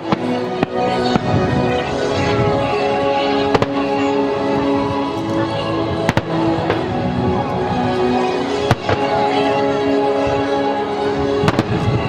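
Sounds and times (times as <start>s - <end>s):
fireworks bursting with sharp bangs: 0.0s - 7.6s, 8.2s - 9.4s, 11.1s - 12.0s
melodic music: 0.0s - 12.0s.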